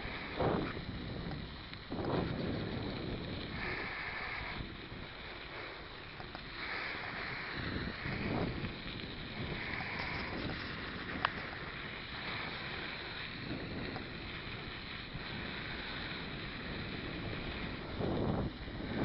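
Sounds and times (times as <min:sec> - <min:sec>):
wind on microphone: 0:00.0 - 0:05.5, 0:06.2 - 0:19.0
bike riding noise: 0:00.0 - 0:19.0.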